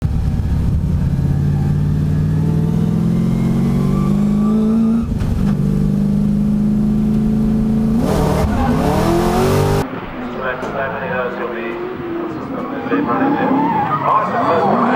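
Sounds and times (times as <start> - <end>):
car engines accelerating hard: 0.0 - 14.9.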